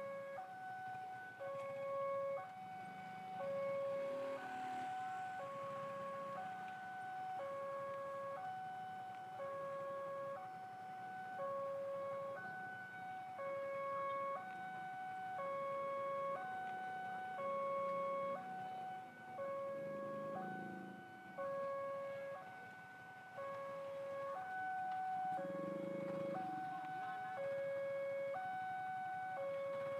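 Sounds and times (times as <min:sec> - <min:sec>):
level crossing two-tone alarm: 0:00.0 - 0:29.9.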